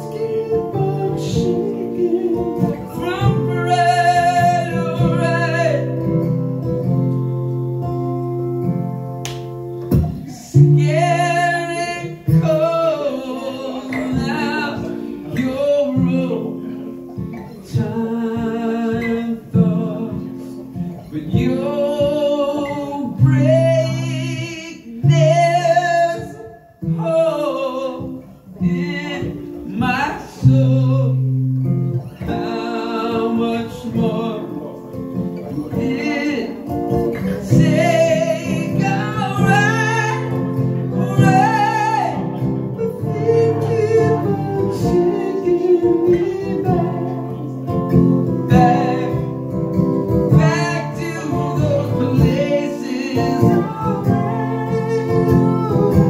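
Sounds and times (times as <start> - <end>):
man singing with vibrato: 0.0 - 8.0, 9.8 - 56.0
acoustic guitar: 0.0 - 56.0.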